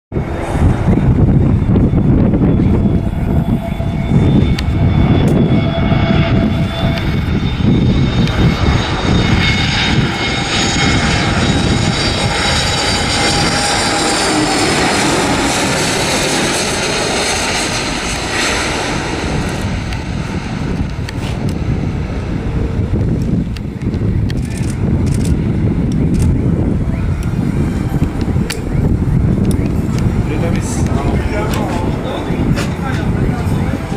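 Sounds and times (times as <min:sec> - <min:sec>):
jet engines roaring: 0:00.1 - 0:33.9
high whining tones: 0:00.3 - 0:33.9.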